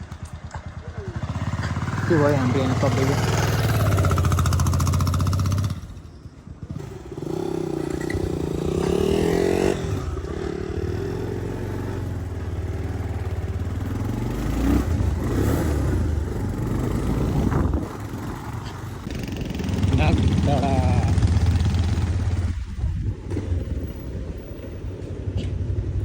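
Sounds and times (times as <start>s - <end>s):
motorcycle engine riding: 0.0s - 26.0s.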